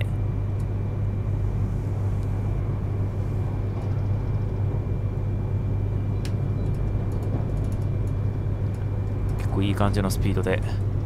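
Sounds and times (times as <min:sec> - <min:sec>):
faint steady whine: 0:00.0 - 0:11.0
train running noise low rumble: 0:00.0 - 0:11.0.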